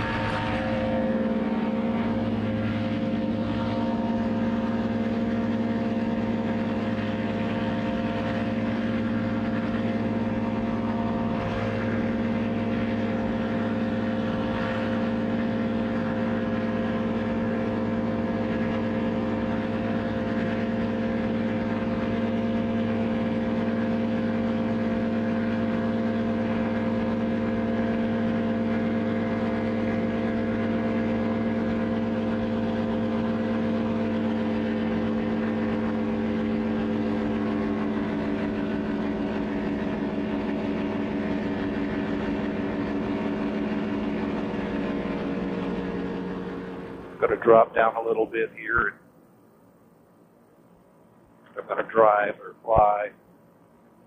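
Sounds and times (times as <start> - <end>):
engine and propeller running: 0.0 - 54.0.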